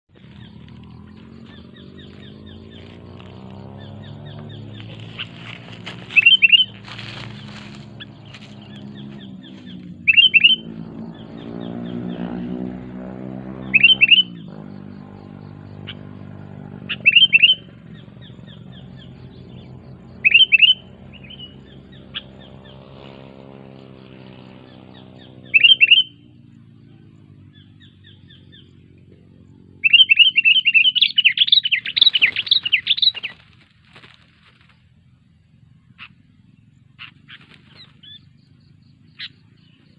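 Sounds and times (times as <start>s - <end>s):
bird chirping: 0.1s - 39.9s.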